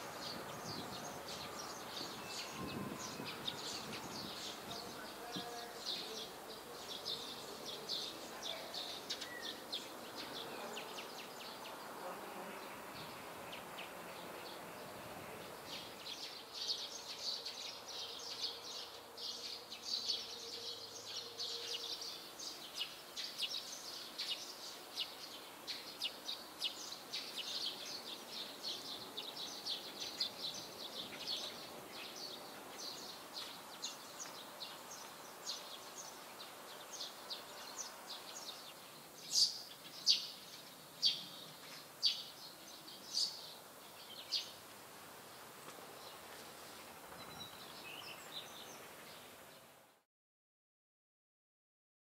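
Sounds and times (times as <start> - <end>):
faint background hiss: 0.0 - 50.0
small birds chirping: 0.0 - 50.0.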